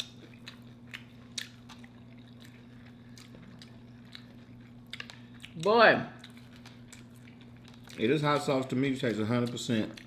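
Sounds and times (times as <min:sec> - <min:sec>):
wet chewing mouth sounds: 0:00.0 - 0:08.1
steady low hum: 0:00.0 - 0:10.0.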